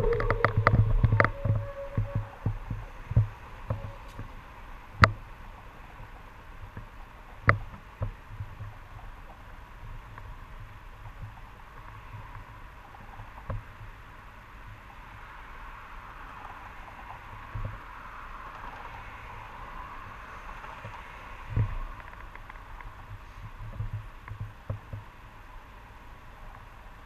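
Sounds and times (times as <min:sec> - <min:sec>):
faint street traffic: 0:00.0 - 0:27.0.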